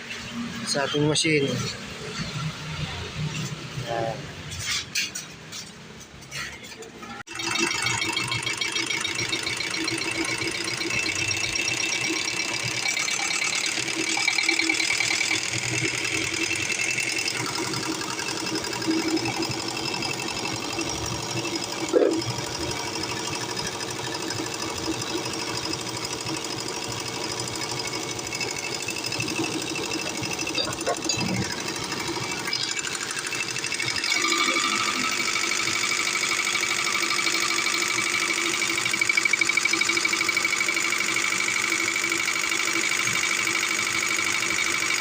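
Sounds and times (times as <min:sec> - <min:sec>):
injection pump mechanical rattle: 0:00.0 - 0:45.0.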